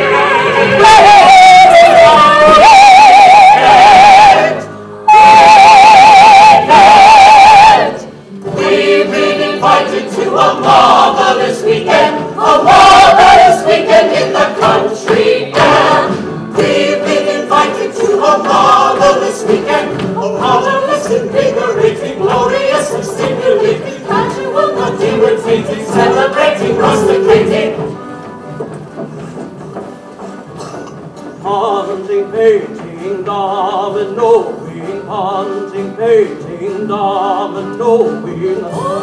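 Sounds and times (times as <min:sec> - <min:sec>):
ensemble singing: 0:00.0 - 0:39.0.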